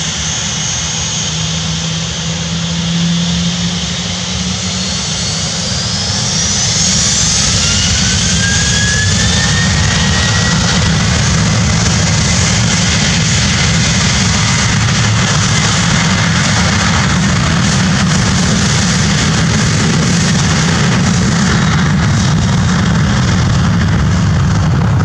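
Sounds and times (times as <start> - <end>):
jet engines spooling up: 0.0 - 25.0.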